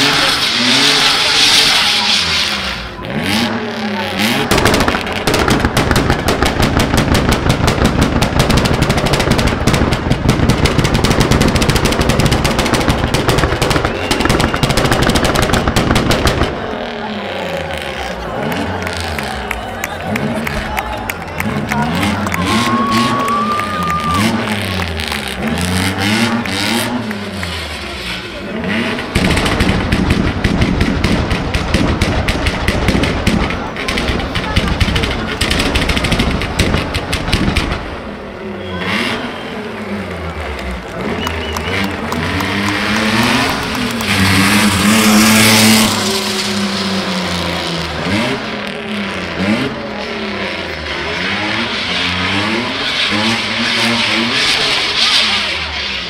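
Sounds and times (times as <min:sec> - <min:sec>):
car engine revving hard: 0:00.0 - 0:20.7, 0:21.3 - 0:37.9, 0:38.7 - 0:56.0.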